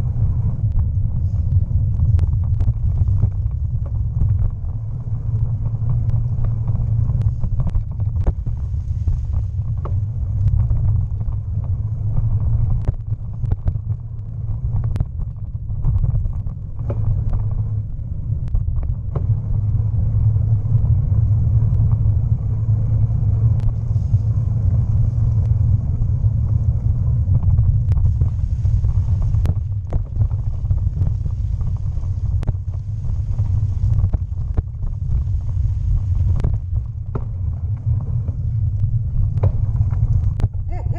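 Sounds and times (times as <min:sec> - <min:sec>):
bicycle tyres and wind rumble: 0:00.0 - 0:40.9.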